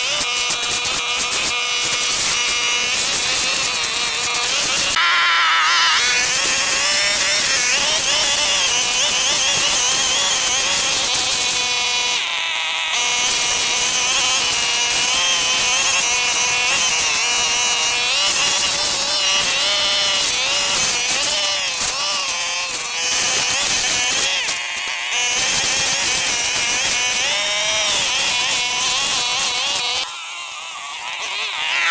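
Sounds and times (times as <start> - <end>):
brush cutter engine cutting grass: 0.0 - 31.9.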